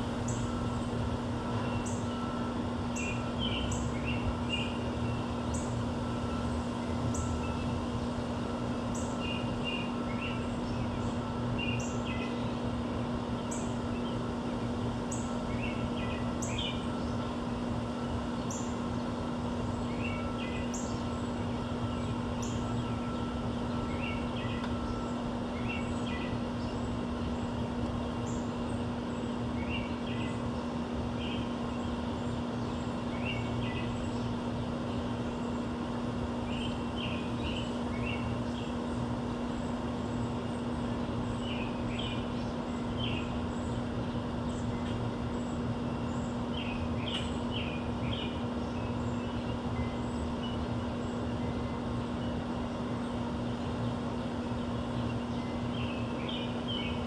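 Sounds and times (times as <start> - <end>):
low urban hum: 0.0 - 57.0
small birds chirping: 0.1 - 57.0.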